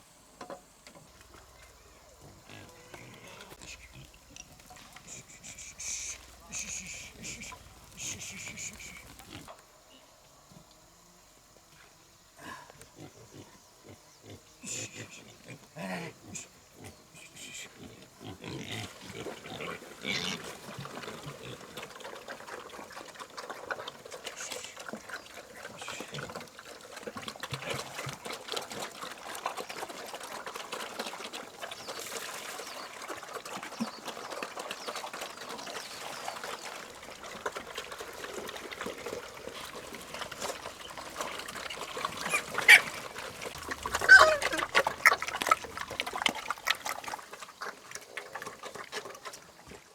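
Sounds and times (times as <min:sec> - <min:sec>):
trickling liquid: 0:01.0 - 0:09.6, 0:18.4 - 0:49.9
pigs grunting: 0:01.2 - 0:09.6, 0:12.4 - 0:49.9.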